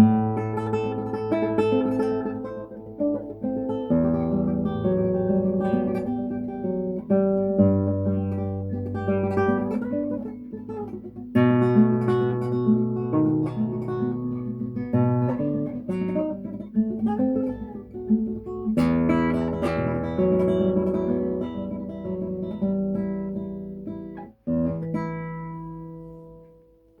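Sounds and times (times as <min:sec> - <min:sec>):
classical guitar playing: 0:00.0 - 0:27.0.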